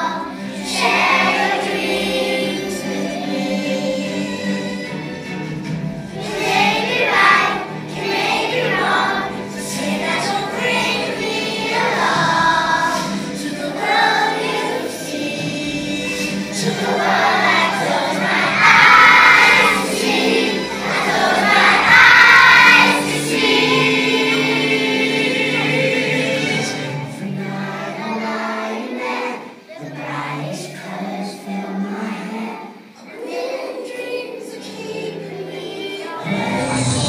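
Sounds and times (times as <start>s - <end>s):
choir singing with accompaniment: 0.0s - 37.0s.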